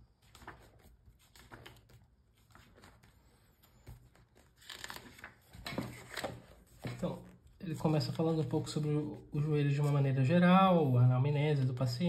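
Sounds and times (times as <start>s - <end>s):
book pages riffled and turned: 0.0s - 10.8s.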